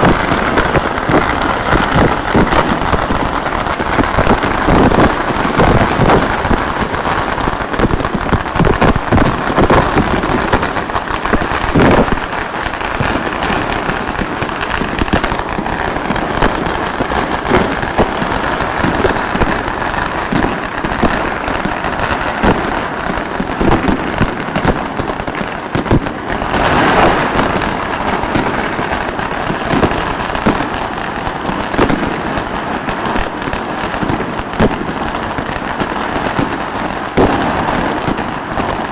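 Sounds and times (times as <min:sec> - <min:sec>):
firecrackers crackling: 0:00.0 - 0:38.9
fireworks bangs: 0:00.0 - 0:38.9.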